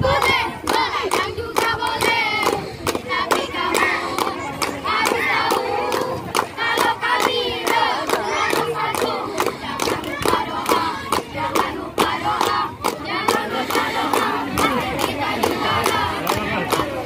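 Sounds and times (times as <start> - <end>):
crowd shouting and chanting: 0.0 - 17.0.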